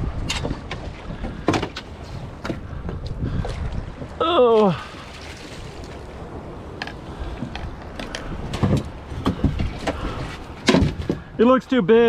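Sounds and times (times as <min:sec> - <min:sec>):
water noise: 0:00.0 - 0:12.0
wind: 0:00.0 - 0:12.0
water splashing: 0:01.6 - 0:11.3.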